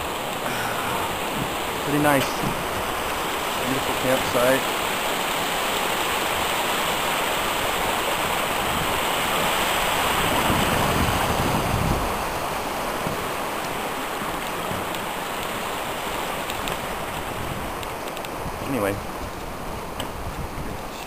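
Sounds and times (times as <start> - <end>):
fast-running creek rushing: 0.0 - 21.0
wind buffeting microphone: 0.0 - 21.0.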